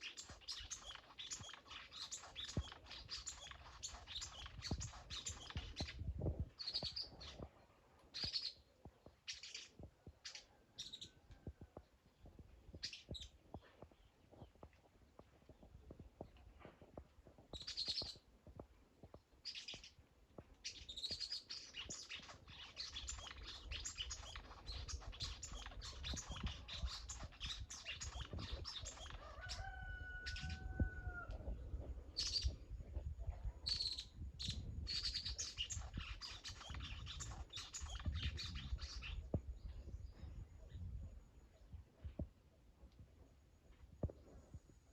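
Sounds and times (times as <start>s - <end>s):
small bird chirping: 0.0s - 16.5s, 17.3s - 42.3s.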